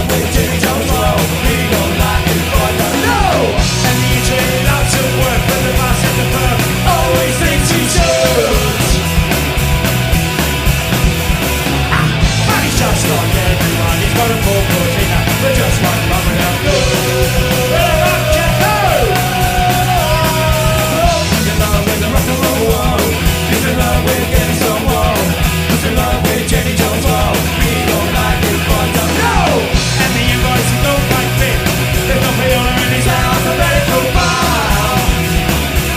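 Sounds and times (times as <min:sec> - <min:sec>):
punk rock band playing: 0:00.0 - 0:35.9.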